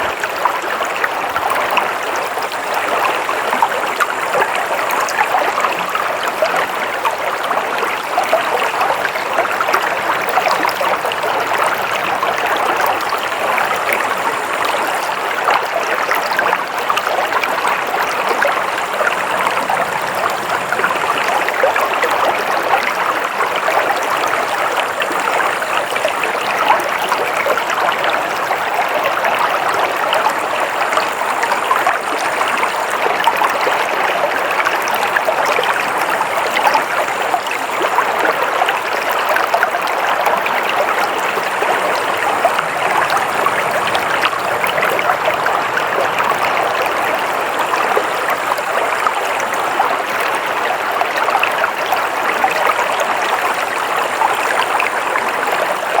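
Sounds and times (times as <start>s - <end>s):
water flowing in a stream: 0.0s - 56.0s.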